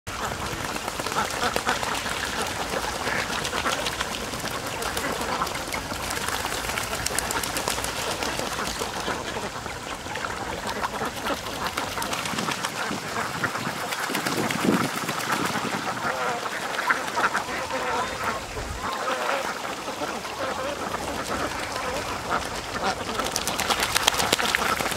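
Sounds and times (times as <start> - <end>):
ducks quacking: 0.1 - 24.9
ducks splashing in water: 0.1 - 24.9.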